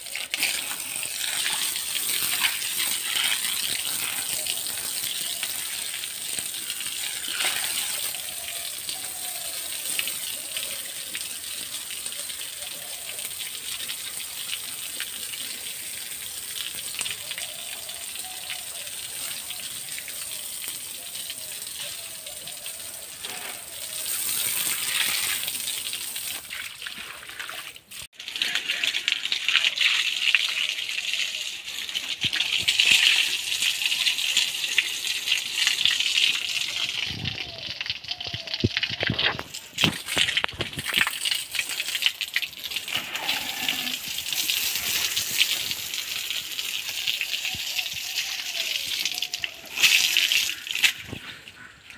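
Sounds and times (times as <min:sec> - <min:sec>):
water running and gushing: 0:00.0 - 0:51.9
water splashing: 0:00.0 - 0:51.9.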